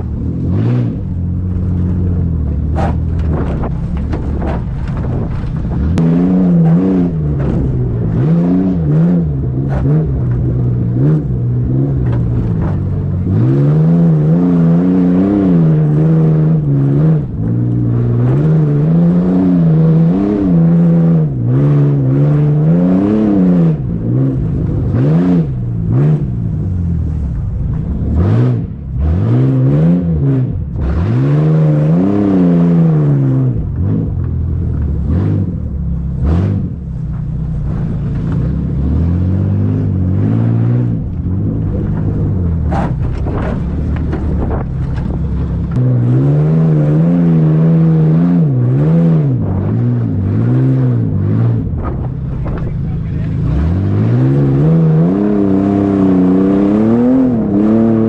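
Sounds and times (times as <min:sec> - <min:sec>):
vehicle engine revving: 0:00.0 - 0:58.0.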